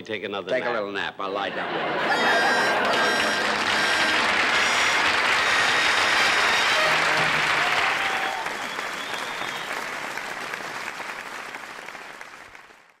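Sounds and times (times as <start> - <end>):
studio audience applauding: 1.9 - 13.0.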